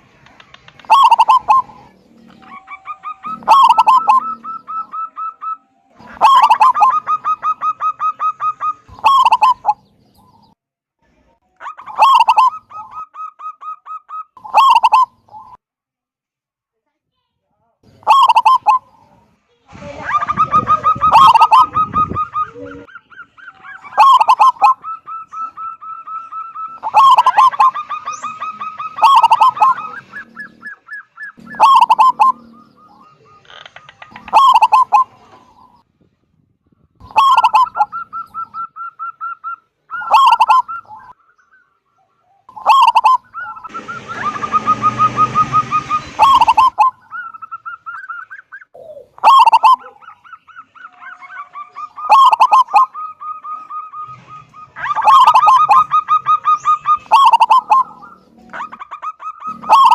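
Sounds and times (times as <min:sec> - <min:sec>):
dove cooing: 0:00.4 - 0:10.5, 0:11.7 - 0:15.6, 0:18.0 - 0:19.2, 0:19.9 - 0:35.8, 0:37.0 - 0:41.2, 0:41.9 - 0:59.9
trilled coos: 0:00.7 - 0:10.4, 0:11.6 - 0:15.6, 0:18.0 - 0:19.1, 0:20.0 - 0:35.8, 0:37.0 - 0:59.9.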